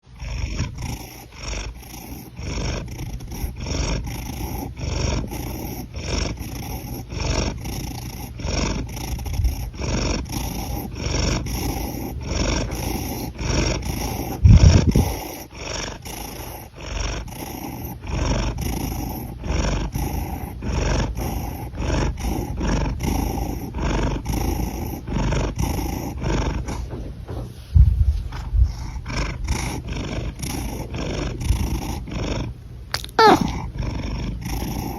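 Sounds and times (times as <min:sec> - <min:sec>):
cat breathing: 0:00.2 - 0:32.3, 0:33.2 - 0:34.9.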